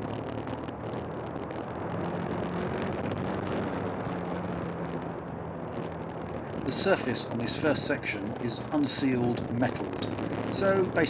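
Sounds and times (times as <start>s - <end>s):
wind noise: 0.0s - 11.0s.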